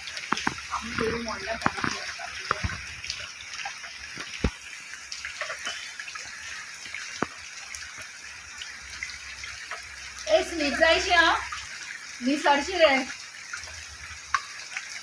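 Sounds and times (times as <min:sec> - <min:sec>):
running water rushing: 0:00.0 - 0:15.0
water drips and taps: 0:00.0 - 0:15.0.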